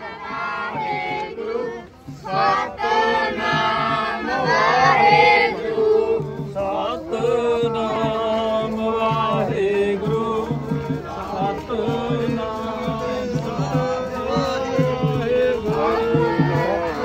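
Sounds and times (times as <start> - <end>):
voices chanting a hymn: 0.0 - 17.0.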